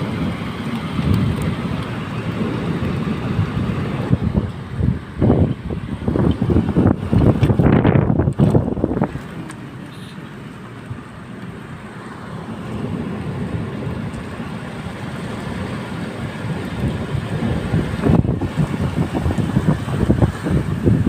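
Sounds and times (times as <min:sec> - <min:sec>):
wind buffeting microphone: 0:00.0 - 0:09.8, 0:12.5 - 0:21.0
rain falling: 0:00.0 - 0:21.0.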